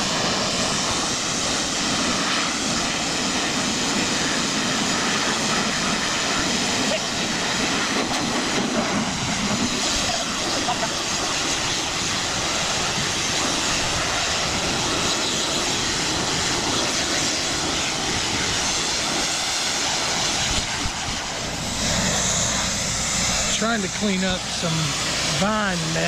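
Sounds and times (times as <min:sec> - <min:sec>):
pressure washer engine drone: 0:00.0 - 0:26.0.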